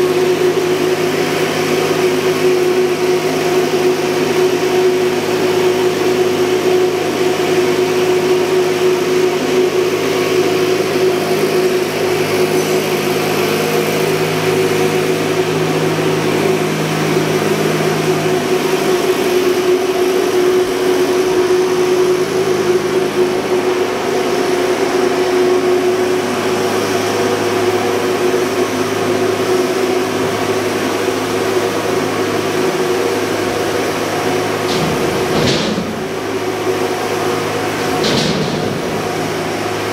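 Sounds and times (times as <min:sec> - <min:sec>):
engine-room machinery drone: 0:00.0 - 0:39.9.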